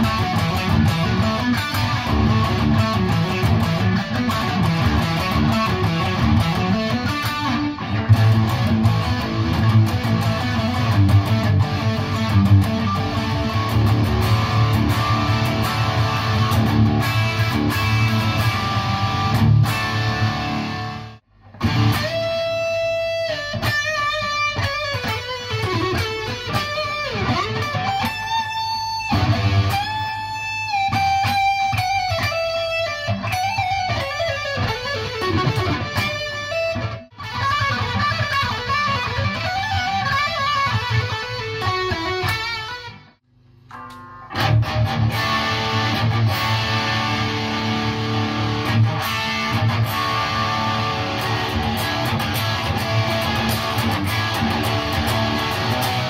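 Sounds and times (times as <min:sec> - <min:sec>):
electric guitar through tube amp: 0:00.0 - 0:56.0.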